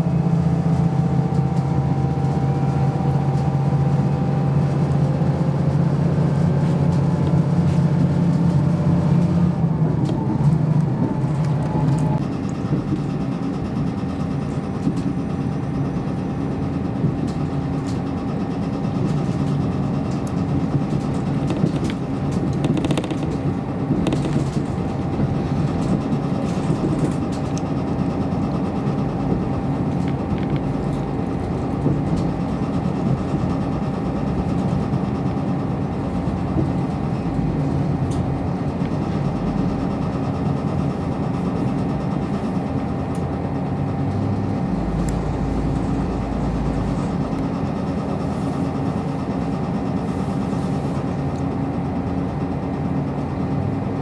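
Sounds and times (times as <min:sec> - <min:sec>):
diesel engine drone: 0:00.0 - 0:54.0
wheels rumbling on rails: 0:00.0 - 0:54.0.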